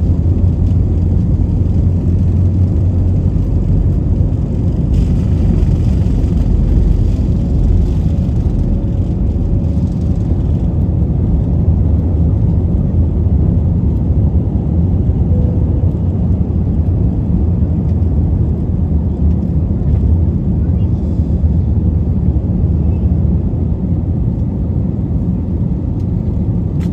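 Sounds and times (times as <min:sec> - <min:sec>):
jet engines rumbling in cabin: 0:00.0 - 0:26.9.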